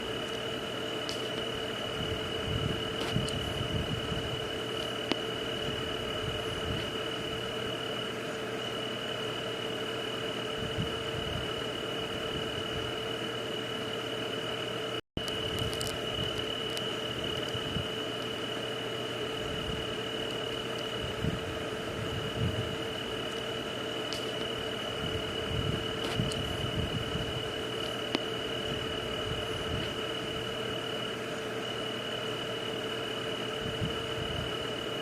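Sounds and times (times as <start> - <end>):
lower steady hum: 0.0 - 35.0.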